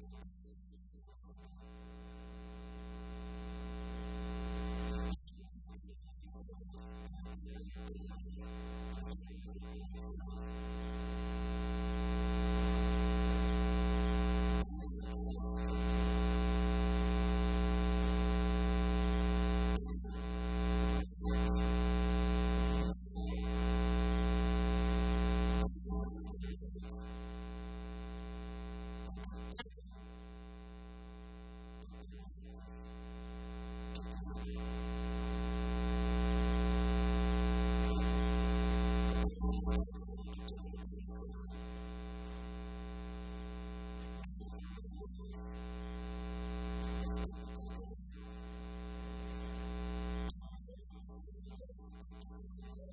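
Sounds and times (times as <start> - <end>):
electrical mains hum: 1.4 - 5.3, 6.6 - 40.6, 41.2 - 50.4.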